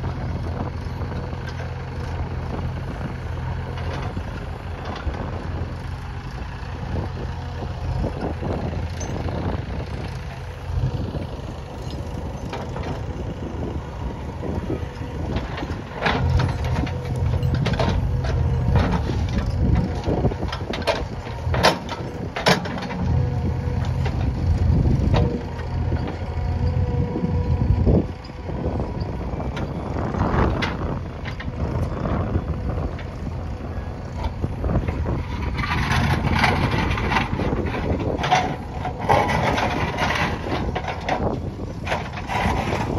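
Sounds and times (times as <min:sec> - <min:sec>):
diesel engine rumble: 0:00.0 - 0:42.9.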